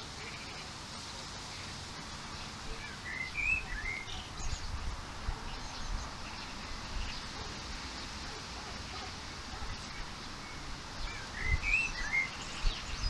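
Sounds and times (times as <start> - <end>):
background hiss: 0.0 - 13.0
birds chirping: 0.0 - 13.0.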